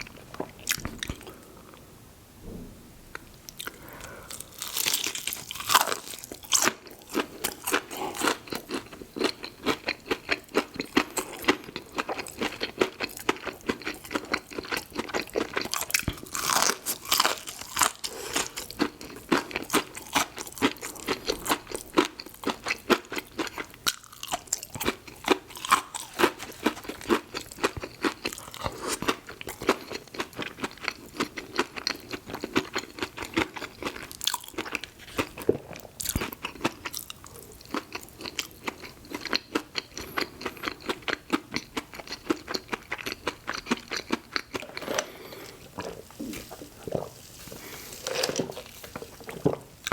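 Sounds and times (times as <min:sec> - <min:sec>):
person chewing crunchy food: 0:00.0 - 0:01.5, 0:03.2 - 0:49.9.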